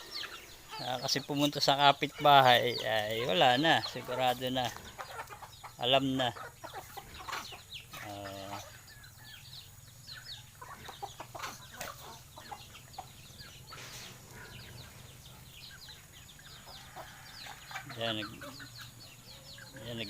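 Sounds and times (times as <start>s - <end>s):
chickens peeping and clucking: 0.0s - 20.0s.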